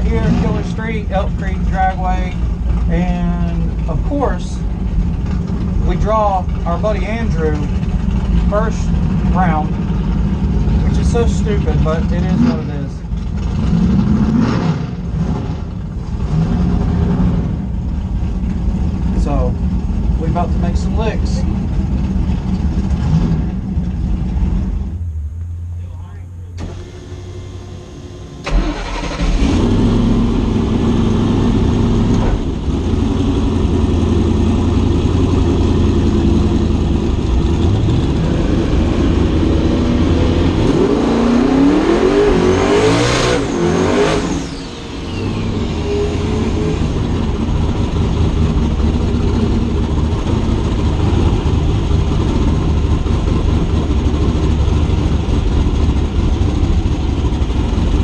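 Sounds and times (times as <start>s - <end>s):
drag car engine revving: 0.0s - 58.0s.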